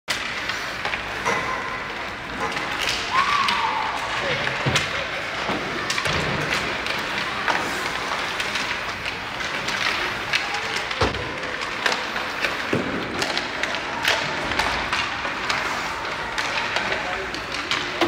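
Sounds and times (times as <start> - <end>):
hockey sticks and puck clacking: 0.1 - 18.0
puck hitting boards: 2.3 - 18.0.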